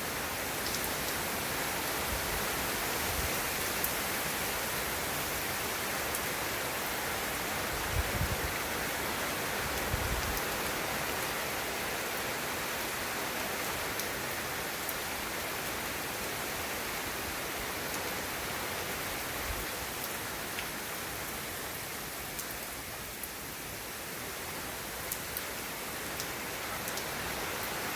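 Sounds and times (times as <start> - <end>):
steady rain: 0.0 - 27.9.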